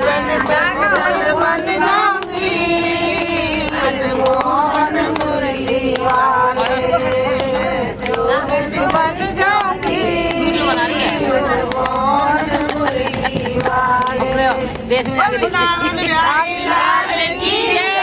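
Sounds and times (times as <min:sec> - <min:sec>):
women singing together: 0:00.0 - 0:18.0.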